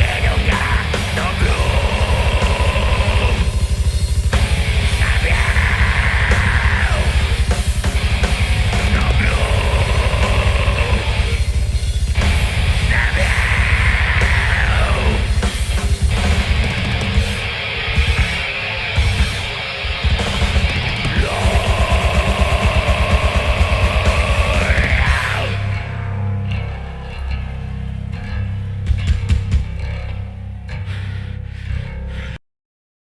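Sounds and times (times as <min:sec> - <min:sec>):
fast dense drumming: 0:00.0 - 0:25.7, 0:28.9 - 0:29.8
distorted guitars: 0:00.0 - 0:32.4
high sliding guitar sounds: 0:00.0 - 0:32.4.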